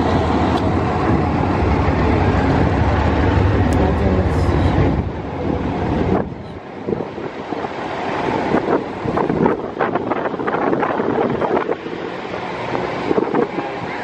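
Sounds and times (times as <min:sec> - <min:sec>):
truck engine rumble: 0:00.0 - 0:14.0.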